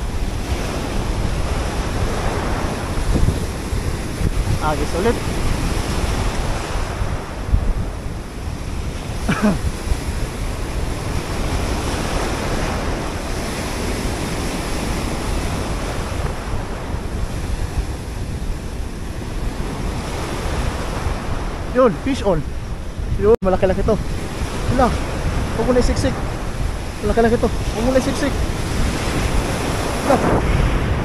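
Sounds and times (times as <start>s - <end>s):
surf breaking over rocks: 0.0s - 31.0s
wind buffeting microphone: 0.0s - 31.0s.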